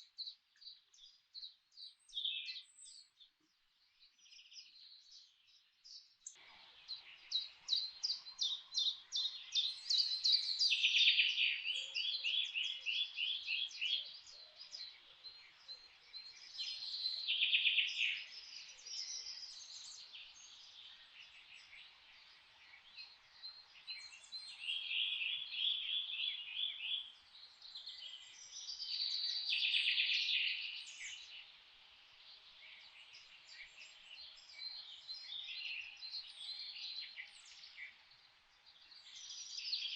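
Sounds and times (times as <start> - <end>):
forest songbirds trilling: 0.0 - 39.9.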